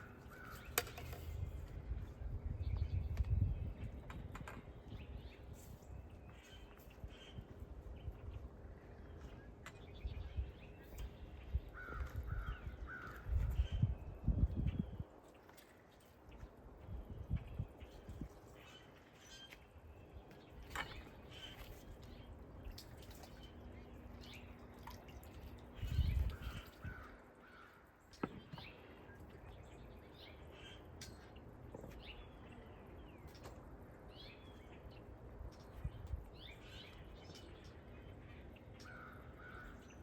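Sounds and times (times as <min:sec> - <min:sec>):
moving water: 0:00.0 - 0:40.0.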